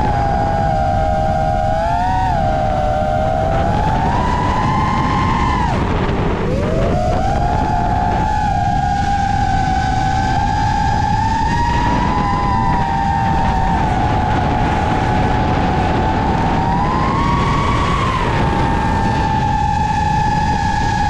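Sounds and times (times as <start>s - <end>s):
drone motors whining: 0.0s - 21.0s
low rush of noise: 0.0s - 21.0s.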